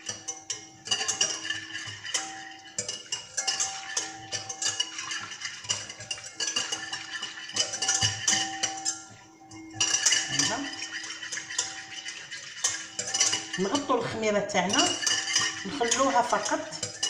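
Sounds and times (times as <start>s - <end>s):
glass ringing: 0.0s - 17.0s
whisk beating against glass bowl: 0.0s - 17.0s.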